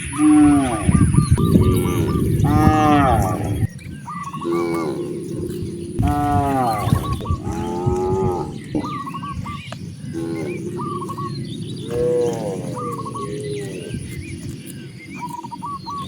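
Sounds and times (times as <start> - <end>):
cows mooing: 0.0 - 9.4, 10.0 - 14.2.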